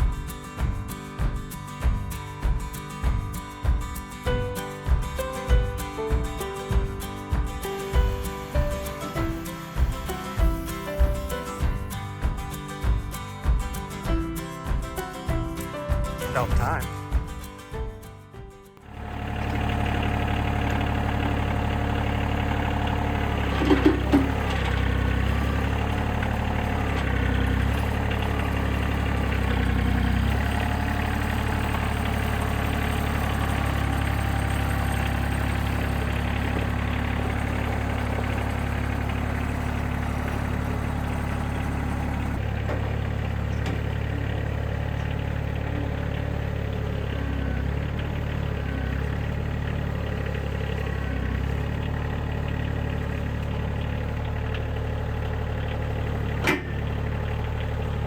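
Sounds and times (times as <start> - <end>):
engine running: 0.0 - 17.3, 18.8 - 58.0.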